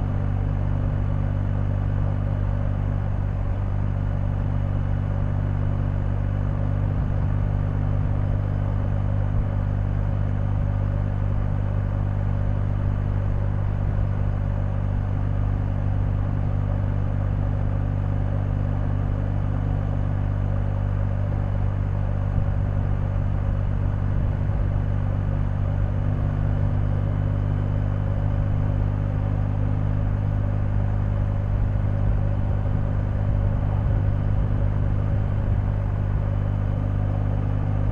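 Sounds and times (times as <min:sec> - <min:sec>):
motorcycle engine running steadily: 0:00.0 - 0:37.9.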